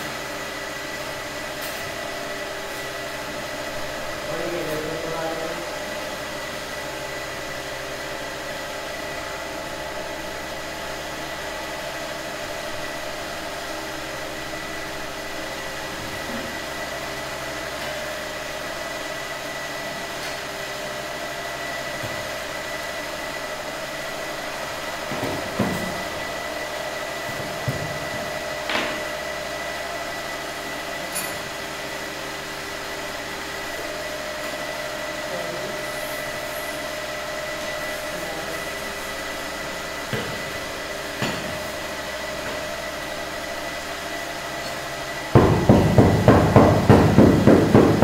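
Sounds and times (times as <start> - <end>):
machine hum: 0.0 - 48.0.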